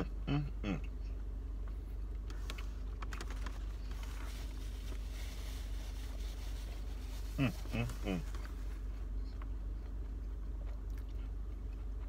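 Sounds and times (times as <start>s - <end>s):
man chewing: 0.8s - 12.0s.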